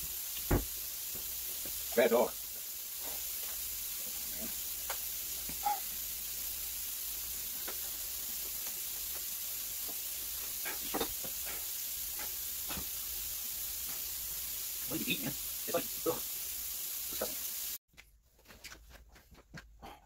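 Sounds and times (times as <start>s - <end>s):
steady background hiss: 0.0s - 17.8s.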